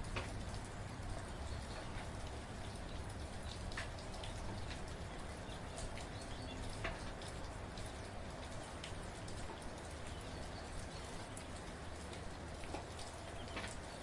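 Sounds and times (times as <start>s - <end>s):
gentle rain hiss: 0.0s - 14.0s
raindrops ticking on a surface: 0.0s - 14.0s.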